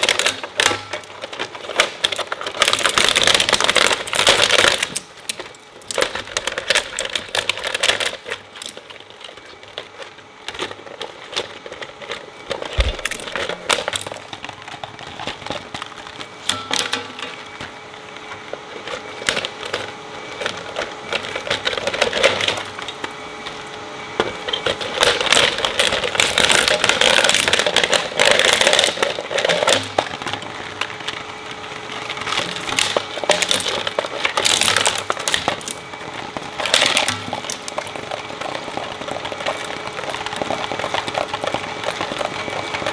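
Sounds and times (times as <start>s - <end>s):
machine humming: 0.0s - 42.9s
shredder crunching plastic: 0.0s - 42.9s.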